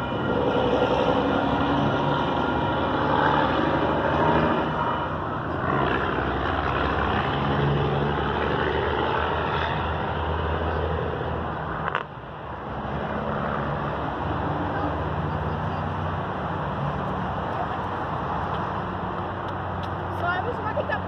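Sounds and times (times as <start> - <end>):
rumble of engines: 0.0 - 21.0.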